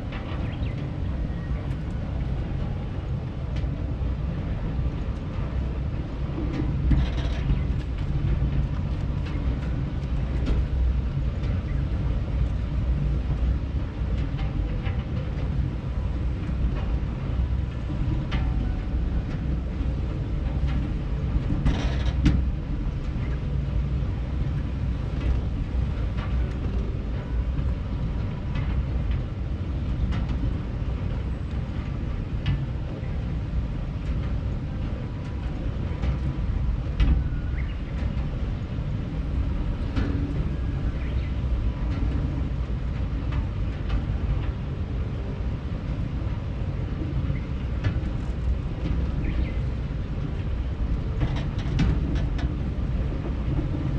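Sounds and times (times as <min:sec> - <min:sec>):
ride chair rumbling on track: 0:00.0 - 0:53.9.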